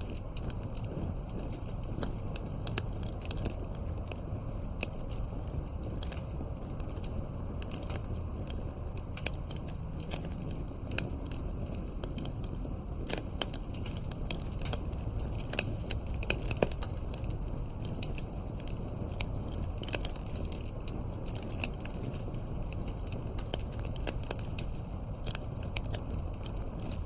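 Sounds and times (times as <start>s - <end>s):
campfire wood crackling and popping: 0.0s - 27.0s
steady low rumble: 0.0s - 27.0s.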